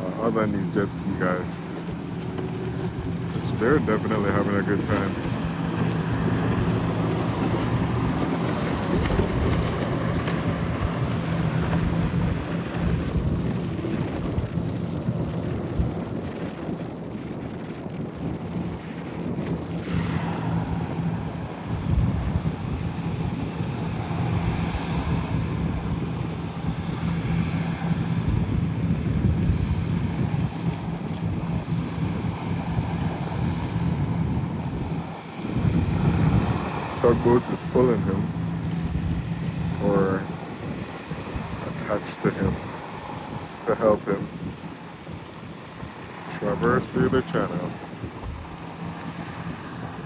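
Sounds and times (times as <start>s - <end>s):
boat engine droning: 0.0s - 50.0s
wind buffeting microphone: 0.0s - 50.0s.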